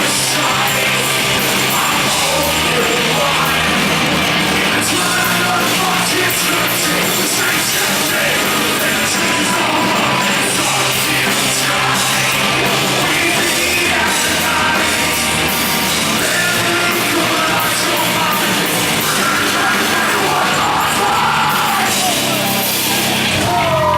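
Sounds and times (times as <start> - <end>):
live rock band: 0.0 - 23.9
shouted vocals: 0.0 - 23.9.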